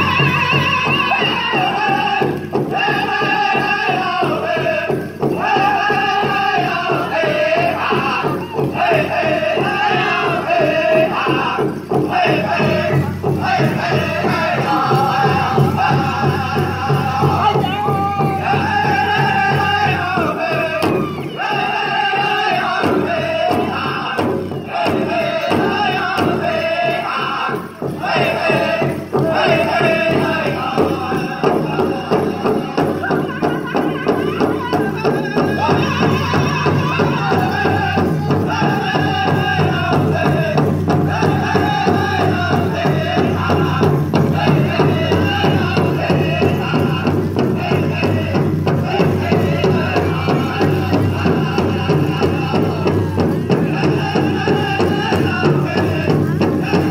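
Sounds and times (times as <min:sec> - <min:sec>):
big drum beat: 0:00.0 - 0:56.9
group singing in high voices: 0:00.0 - 0:56.9.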